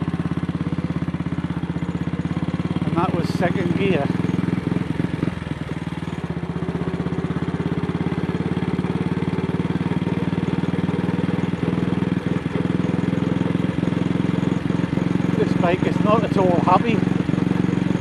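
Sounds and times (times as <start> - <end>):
motorcycle engine running unevenly: 0.0 - 18.0.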